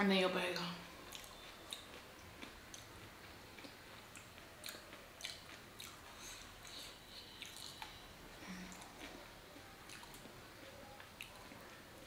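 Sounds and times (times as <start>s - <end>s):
faint chewing: 0.6s - 12.0s.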